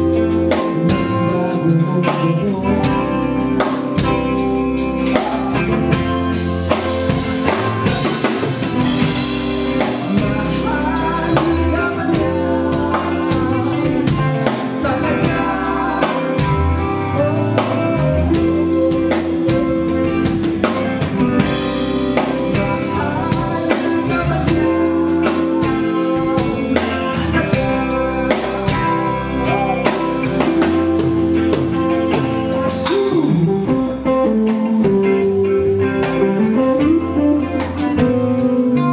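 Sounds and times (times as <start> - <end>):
bass guitar: 0.0 - 38.9
drum kit beat: 0.0 - 38.9
electric guitar: 0.0 - 38.9
person singing: 0.0 - 38.9.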